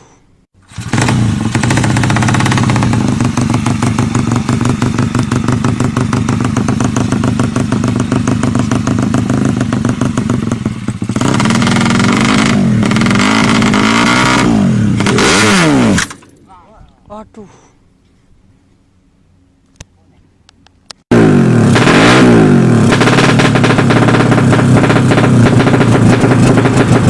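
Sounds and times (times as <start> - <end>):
motorcycle engine revving: 0.6 - 16.3, 21.1 - 27.0.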